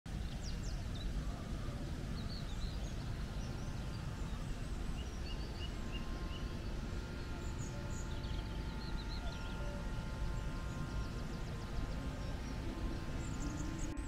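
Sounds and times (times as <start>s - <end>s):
birds chirping and whistling: 0.1s - 14.0s
steady low rumble: 0.1s - 14.0s.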